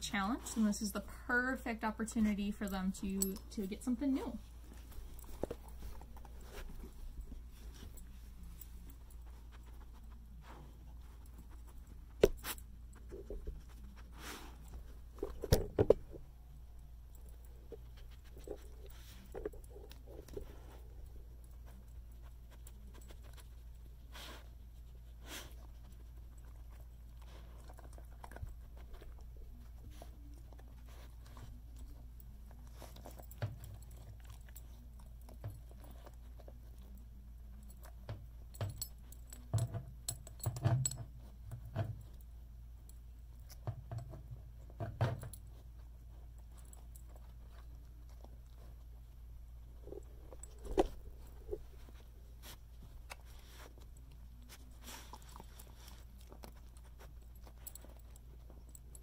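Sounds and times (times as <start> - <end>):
dog chewing crunchy food: 3.3 - 59.0.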